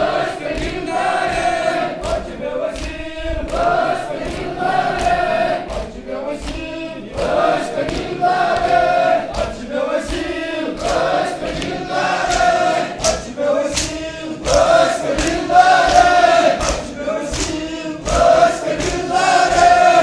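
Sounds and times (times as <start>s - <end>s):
men chanting a lament: 0.0s - 20.0s
sharp percussive beats: 0.0s - 20.0s.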